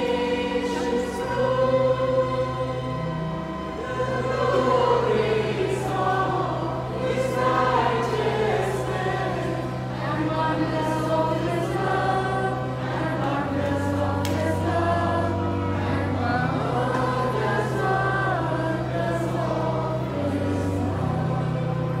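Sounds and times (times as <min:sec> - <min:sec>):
choir singing: 0:00.0 - 0:22.0
held low accompaniment chords: 0:00.0 - 0:22.0.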